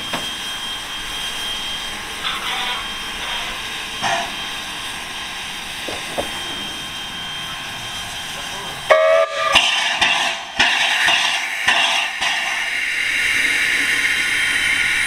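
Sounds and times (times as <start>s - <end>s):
steam locomotive hissing steam: 0.0s - 15.0s.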